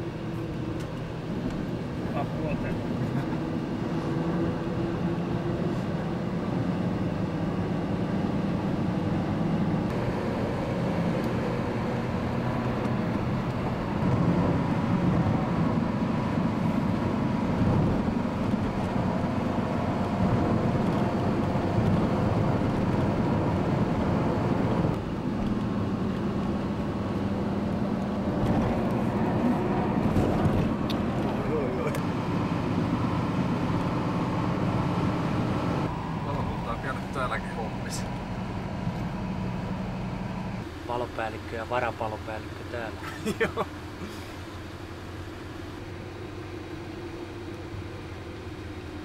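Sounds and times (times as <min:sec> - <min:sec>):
vehicle engine and road noise: 0:00.0 - 0:49.0.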